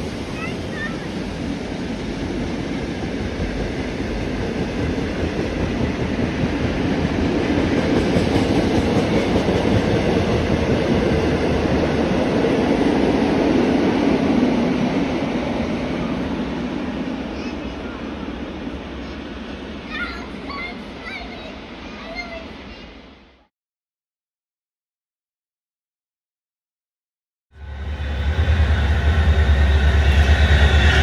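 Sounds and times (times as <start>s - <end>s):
train carriages rolling on rails: 0.0s - 23.0s, 27.6s - 31.0s.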